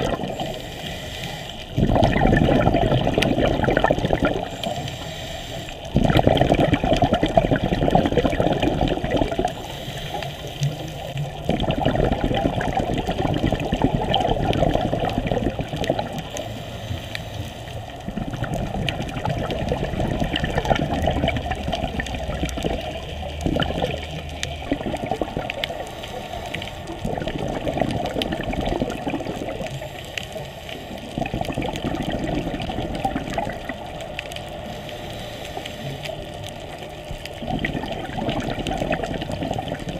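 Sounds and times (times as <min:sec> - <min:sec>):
scuba regulator bubbling exhalations: 0:00.0 - 0:39.9.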